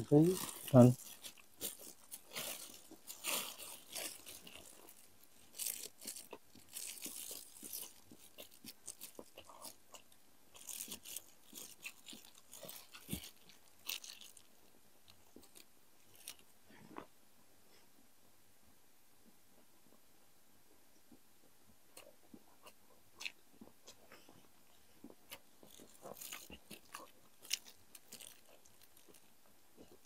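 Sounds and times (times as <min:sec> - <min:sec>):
chewing and crunching food: 0:00.0 - 0:17.2, 0:21.0 - 0:30.0.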